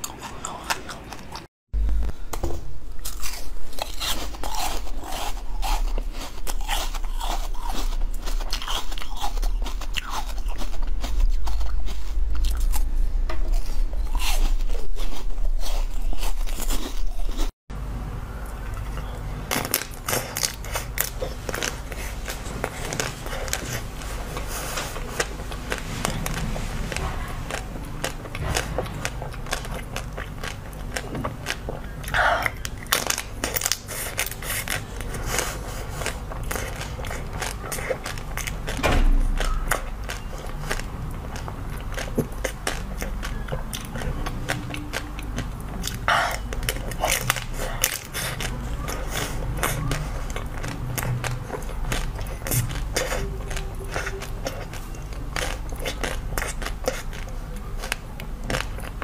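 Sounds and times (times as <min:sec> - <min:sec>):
chewing and wet mouth sounds: 0:00.0 - 0:01.5, 0:02.9 - 0:17.5, 0:18.4 - 0:59.0.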